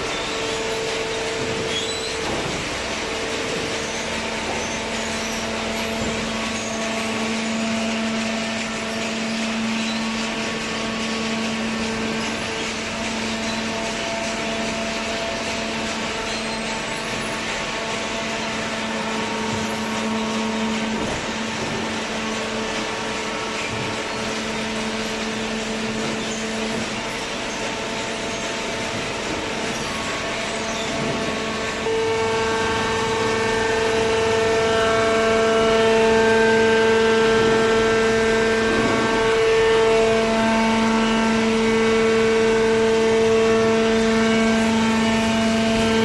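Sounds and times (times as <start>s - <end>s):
baler machine hum and hiss: 0.0s - 46.0s.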